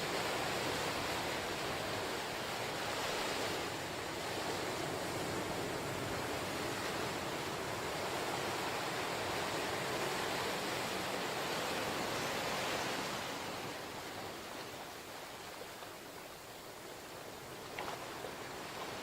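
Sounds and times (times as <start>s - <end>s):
ocean waves washing ashore: 0.0s - 19.0s.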